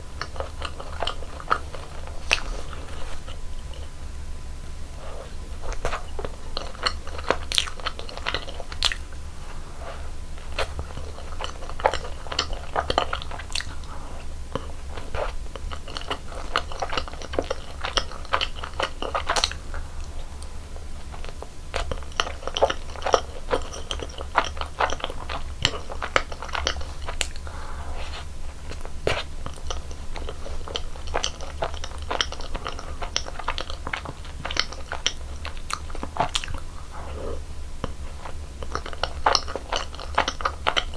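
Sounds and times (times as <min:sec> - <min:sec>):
chewing and biting donuts: 0:00.0 - 0:04.1, 0:04.8 - 0:40.9
steady low hum: 0:00.0 - 0:40.9.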